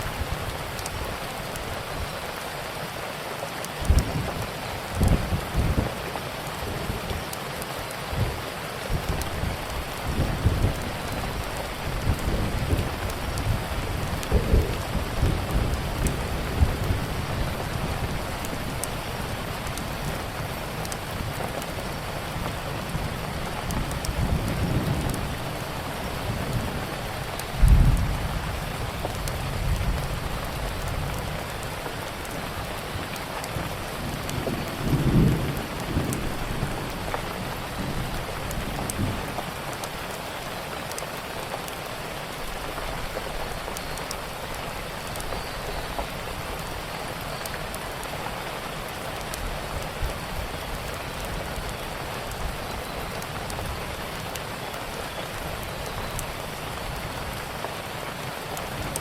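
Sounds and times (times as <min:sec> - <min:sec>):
steady rain falling: 0:00.0 - 0:59.0
wood fire crackling: 0:00.0 - 0:59.0.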